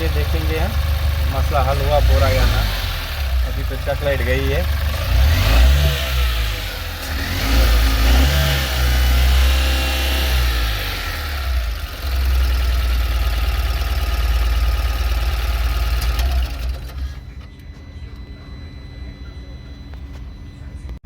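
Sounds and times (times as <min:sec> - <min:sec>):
small petrol engine revving: 0:00.0 - 0:17.2.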